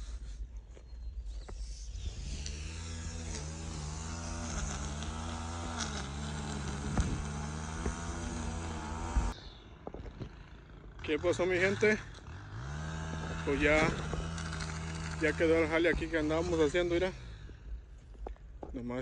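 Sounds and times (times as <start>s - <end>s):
engine running steadily: 1.4s - 18.8s.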